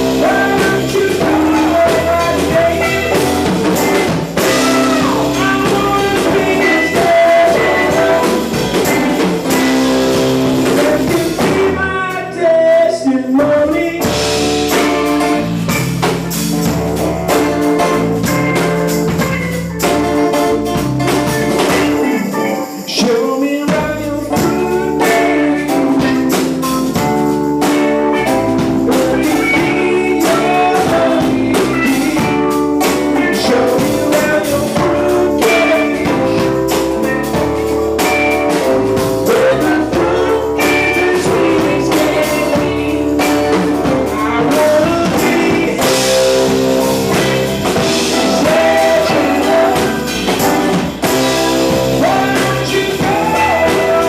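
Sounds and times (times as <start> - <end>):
person singing: 0.0 - 15.5, 21.4 - 54.0
drum kit: 0.0 - 54.0
electric guitar: 0.0 - 54.0
live blues-rock band: 0.0 - 54.0.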